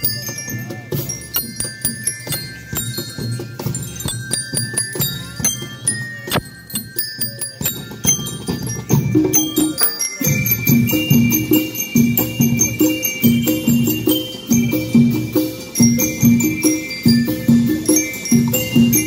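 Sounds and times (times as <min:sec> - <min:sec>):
bell lyre melody: 0:00.0 - 0:19.0
drums: 0:00.0 - 0:19.0
jingling percussion: 0:00.0 - 0:19.0.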